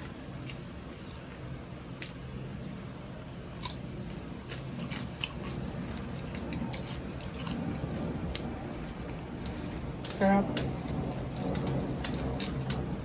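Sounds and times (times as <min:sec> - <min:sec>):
chewing and crunching: 0:00.0 - 0:13.0
low steady hum: 0:00.0 - 0:13.0.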